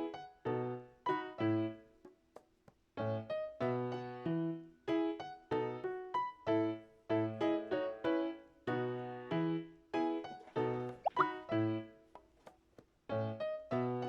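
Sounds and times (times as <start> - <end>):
light piano tune: 0.0 - 2.0, 3.0 - 12.1, 13.1 - 14.0.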